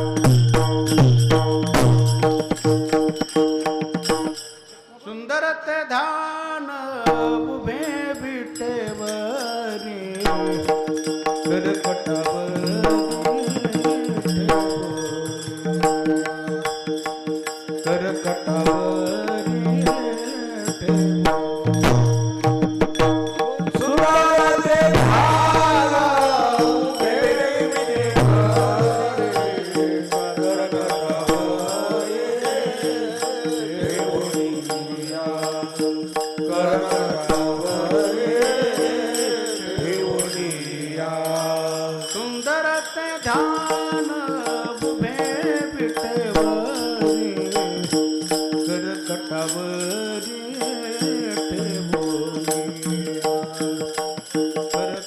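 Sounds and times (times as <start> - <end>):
held accompanying tones: 0.0 - 5.1, 7.1 - 55.0
light jingling percussion: 0.0 - 5.4, 7.1 - 55.0
man singing devotional chant: 0.0 - 55.0.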